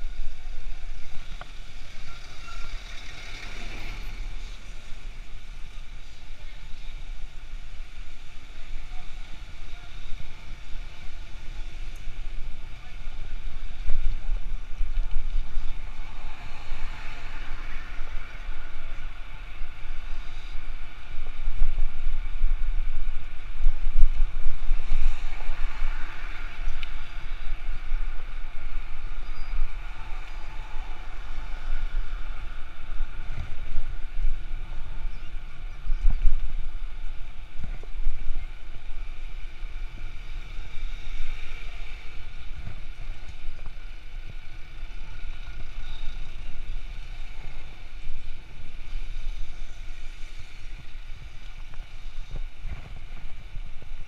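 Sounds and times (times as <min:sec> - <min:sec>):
city traffic noise: 0:00.0 - 0:54.0
wind buffeting microphone: 0:00.0 - 0:54.0.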